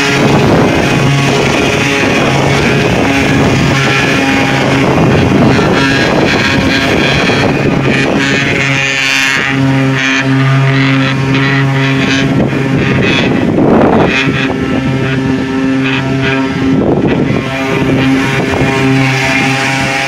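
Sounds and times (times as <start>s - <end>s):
motor humming: 0.0s - 20.0s
wind noise on microphone: 0.0s - 20.0s.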